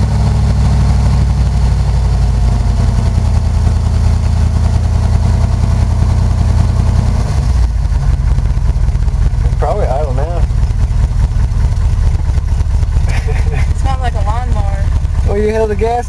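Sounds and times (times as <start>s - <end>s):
pickup engine running loudly: 0.0s - 16.0s.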